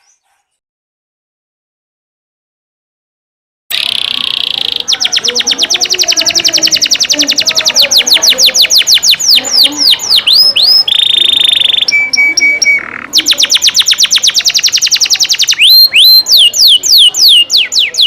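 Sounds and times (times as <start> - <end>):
songbird song: 0.0 - 0.6, 3.7 - 18.0.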